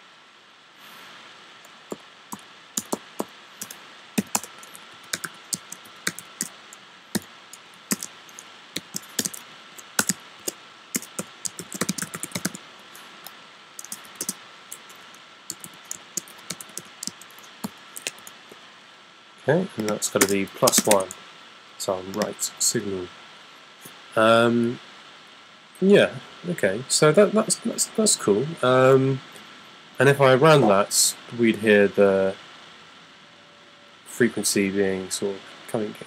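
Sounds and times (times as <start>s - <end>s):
faint steady hiss: 0.0s - 36.0s.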